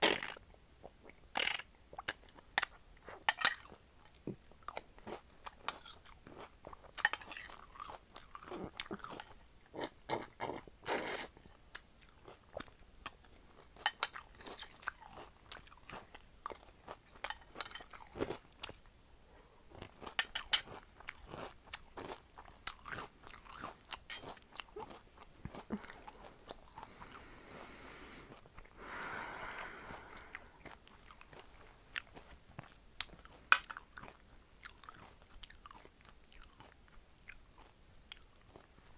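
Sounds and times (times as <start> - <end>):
chewing crunchy cereal: 0.0 - 19.0, 19.7 - 27.6, 28.2 - 28.8, 29.4 - 38.9.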